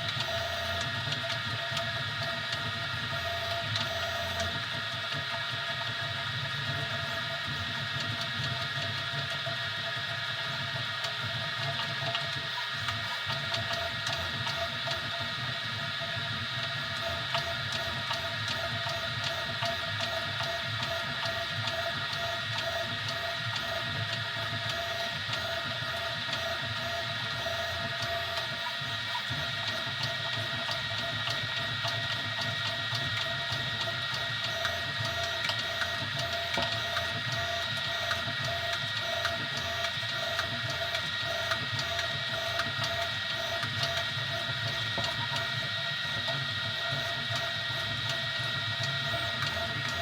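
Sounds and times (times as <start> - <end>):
printer stepper motors whining: 0.0 - 5.2, 5.8 - 50.0.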